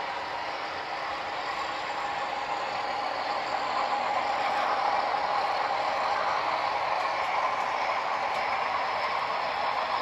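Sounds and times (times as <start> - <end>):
model train whirring rattle: 0.0 - 10.0.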